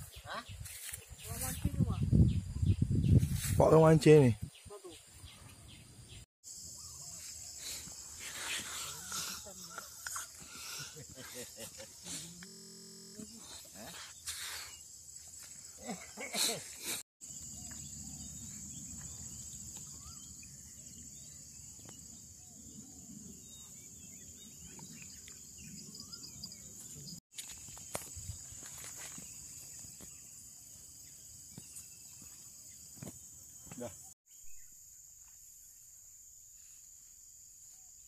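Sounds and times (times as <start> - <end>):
high-pitched insect chorus: 6.4 - 38.0.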